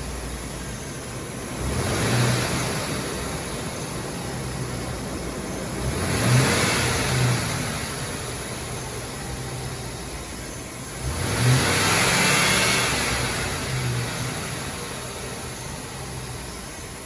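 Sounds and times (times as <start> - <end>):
van engine revving: 0.0 - 17.0.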